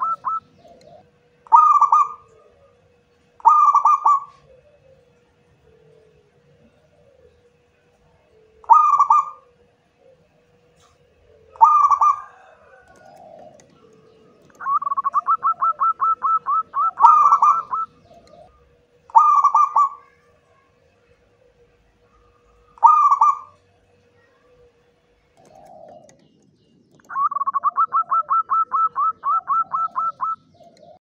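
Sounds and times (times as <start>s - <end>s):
dove cooing: 0.0s - 31.0s
faint steady hum: 0.0s - 31.0s.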